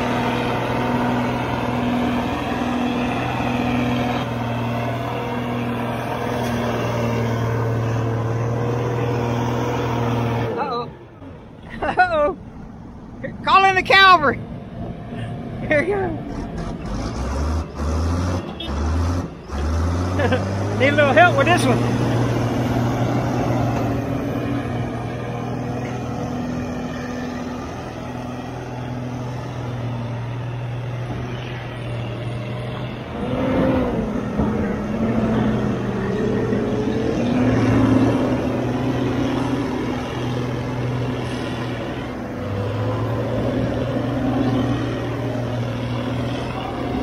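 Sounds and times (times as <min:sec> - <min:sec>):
heavy diesel engines under load: 0:00.0 - 0:47.0.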